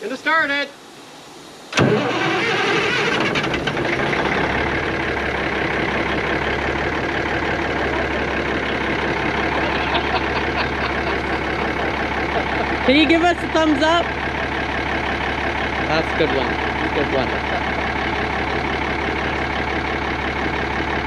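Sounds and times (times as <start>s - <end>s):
diesel truck engine running: 1.7s - 21.0s.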